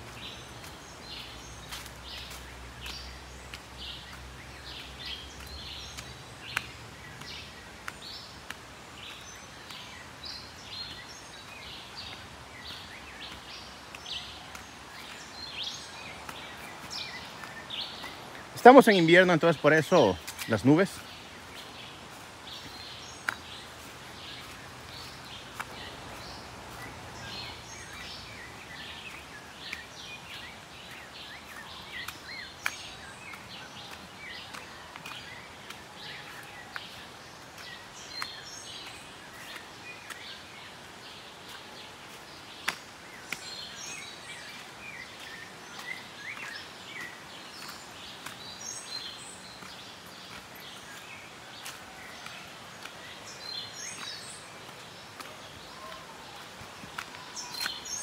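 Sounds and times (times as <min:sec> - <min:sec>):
background hiss: 0:00.0 - 0:58.0
small birds chirping: 0:00.0 - 0:58.0.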